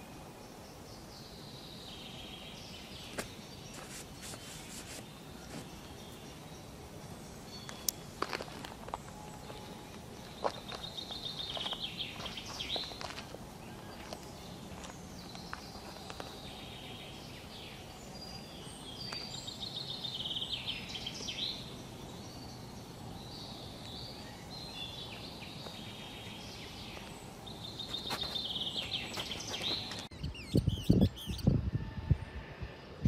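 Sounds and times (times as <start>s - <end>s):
birds chirping and trilling: 0.0s - 33.0s
steady outdoor hiss: 0.0s - 33.0s.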